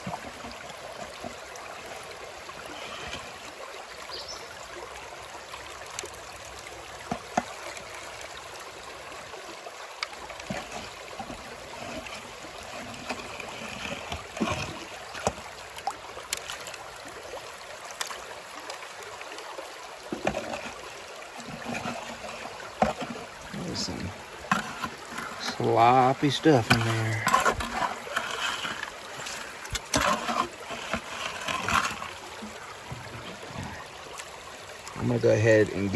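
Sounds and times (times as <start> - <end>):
water running through sluice box: 0.0 - 35.9.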